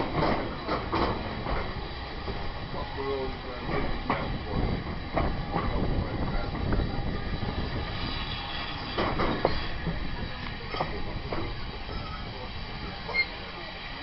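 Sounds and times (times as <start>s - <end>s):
rail carriage wheels rumbling: 0.0s - 14.0s
wheels clacking over rail joints: 0.0s - 14.0s.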